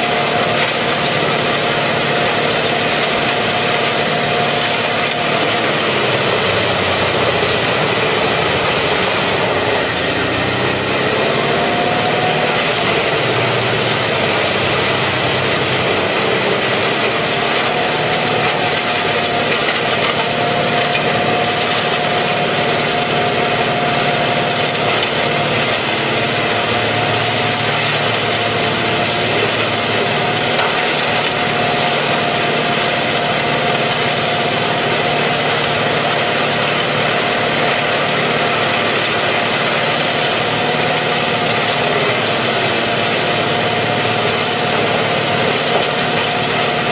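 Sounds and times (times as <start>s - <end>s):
wood chipper droning: 0.0s - 46.9s.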